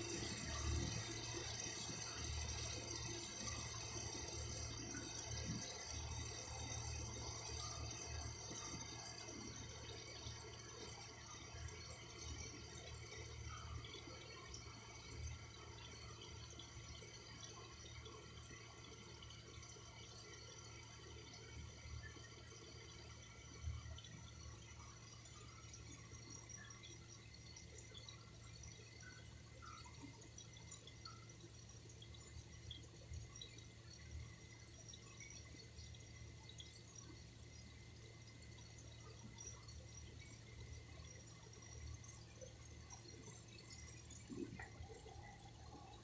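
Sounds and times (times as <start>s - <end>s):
water dripping and trickling: 0.0s - 46.0s.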